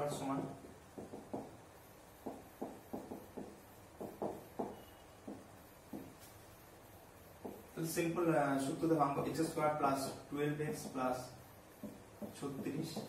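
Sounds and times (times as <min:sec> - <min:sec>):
marker writing on whiteboard: 0:00.0 - 0:08.1, 0:09.2 - 0:13.0.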